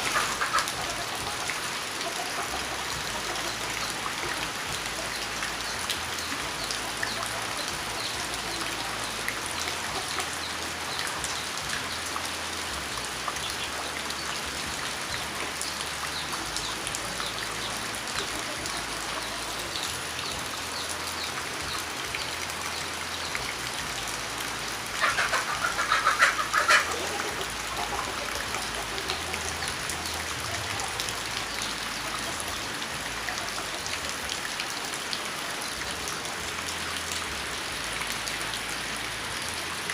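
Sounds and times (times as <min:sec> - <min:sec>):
steady rain dripping: 0:00.0 - 0:39.9.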